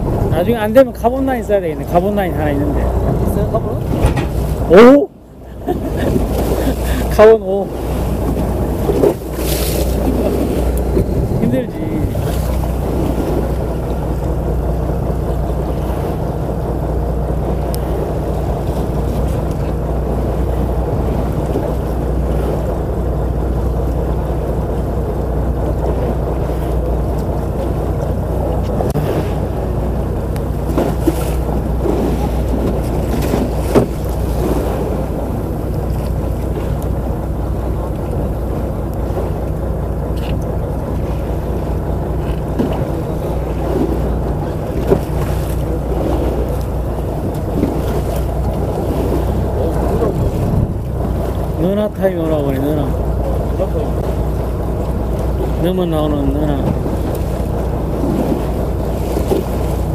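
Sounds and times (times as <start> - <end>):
boat engine humming: 0.0 - 59.9
waves: 0.0 - 59.9
wind: 0.0 - 59.9.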